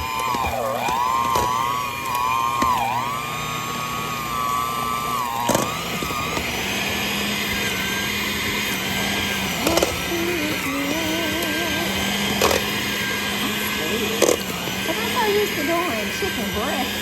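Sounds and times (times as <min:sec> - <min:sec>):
electric mixer running: 0:00.0 - 0:17.0.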